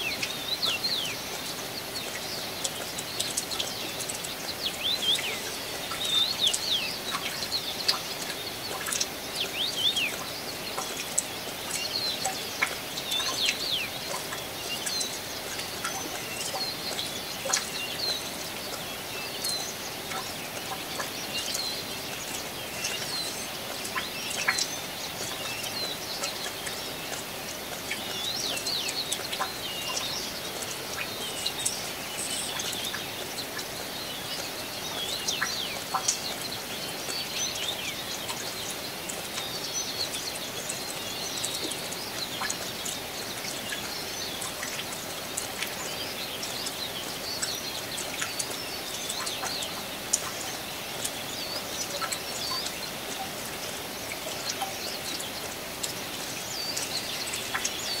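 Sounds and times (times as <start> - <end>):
small birds chirping: 0.0 - 58.0
steady rain falling: 0.0 - 58.0
water drip clicks: 0.0 - 58.0.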